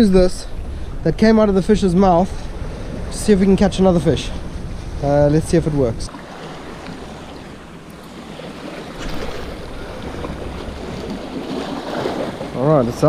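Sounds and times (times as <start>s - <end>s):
wind on microphone: 0.0s - 13.0s
sea surf washing against rocks: 1.1s - 13.0s.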